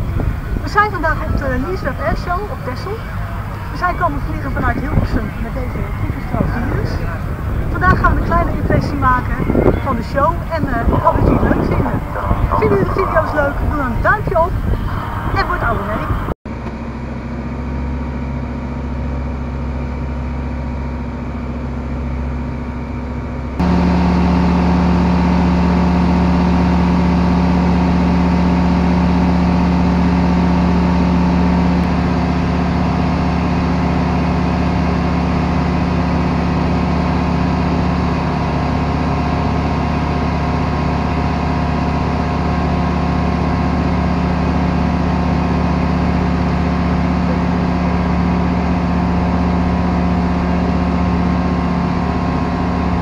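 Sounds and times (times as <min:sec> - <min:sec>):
light aircraft engine and propeller: 0:00.0 - 0:53.0.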